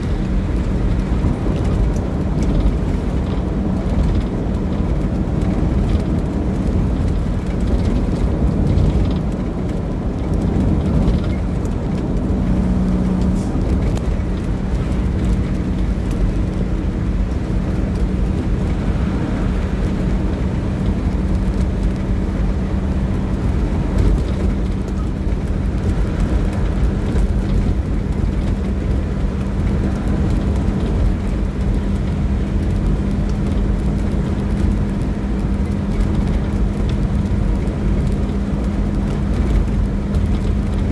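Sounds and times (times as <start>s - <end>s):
vehicle engine rumble: 0.0s - 40.9s.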